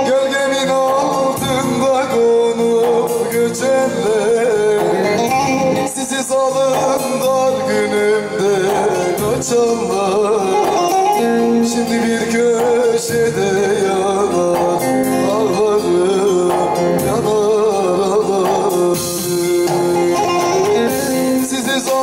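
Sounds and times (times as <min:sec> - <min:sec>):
folk music on lute and keyboard: 0:00.0 - 0:22.0.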